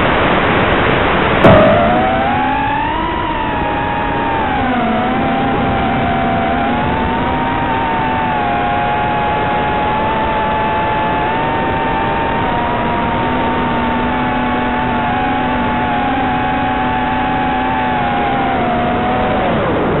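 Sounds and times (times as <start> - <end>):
quadcopter motors whining: 1.4 - 20.0.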